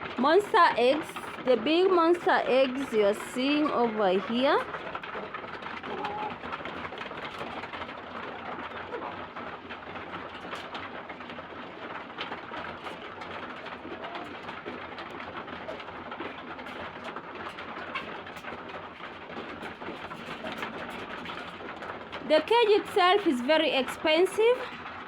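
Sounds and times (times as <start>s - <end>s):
beaks pecking at feed: 0.0s - 24.9s.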